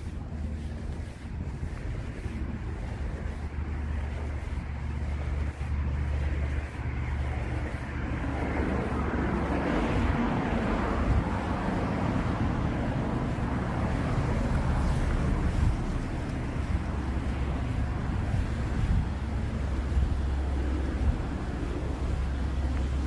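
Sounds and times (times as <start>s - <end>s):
low traffic rumble: 0.0s - 23.0s
vehicles passing close by: 0.0s - 23.0s
wind buffeting microphone: 0.0s - 23.0s.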